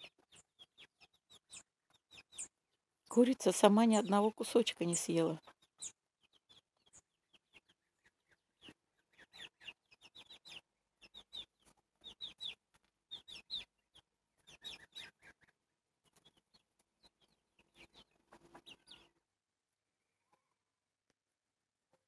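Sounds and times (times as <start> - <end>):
chicks peeping: 0.0 - 19.2.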